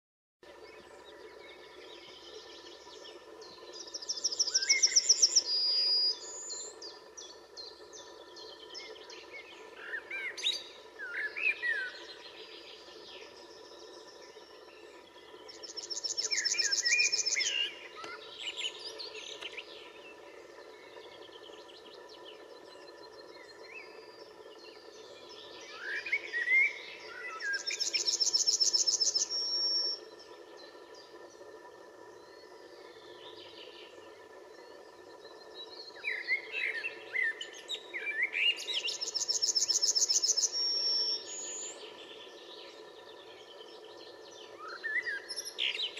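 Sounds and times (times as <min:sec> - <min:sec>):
faint small bird chirps: 0:00.6 - 0:45.9.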